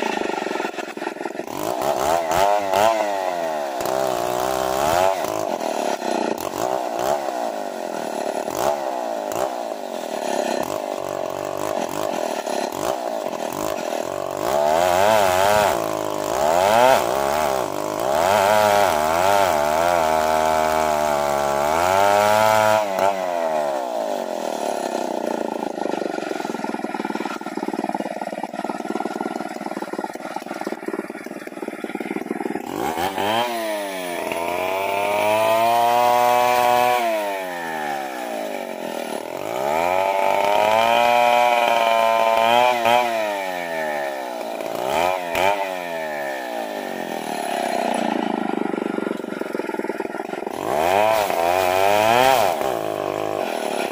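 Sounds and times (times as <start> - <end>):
chainsaw ripping a log: 0.0 - 53.9.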